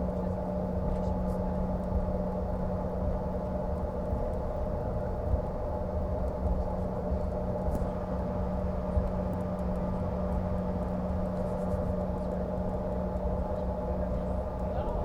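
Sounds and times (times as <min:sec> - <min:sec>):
jet cabin drone: 0:00.0 - 0:15.0.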